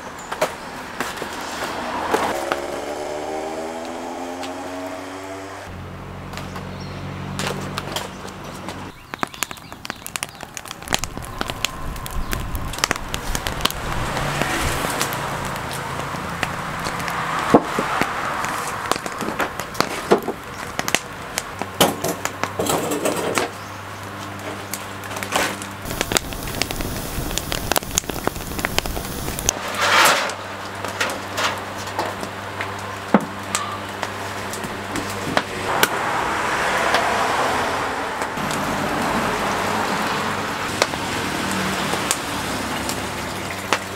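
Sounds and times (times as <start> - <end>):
coconut shells crackling in fire: 0.0 - 5.2, 6.2 - 43.9.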